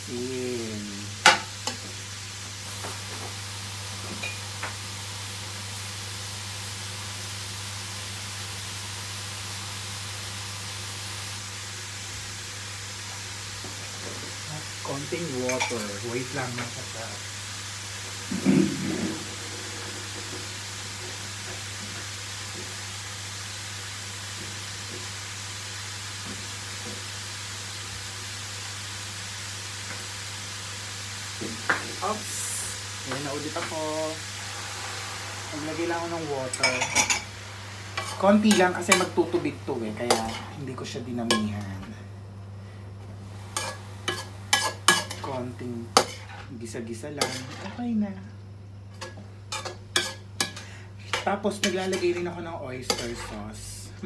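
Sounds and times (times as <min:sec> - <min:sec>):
sizzling in a frying pan: 0:00.0 - 0:54.0.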